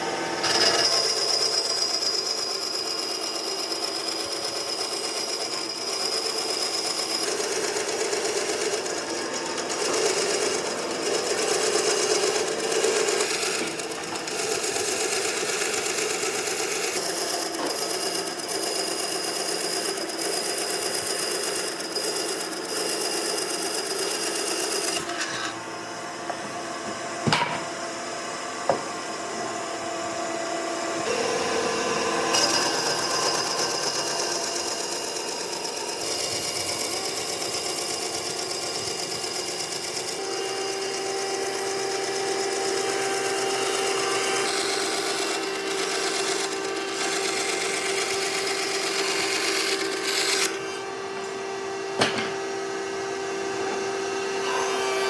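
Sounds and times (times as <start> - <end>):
power tool running on wood: 0.0 - 55.0.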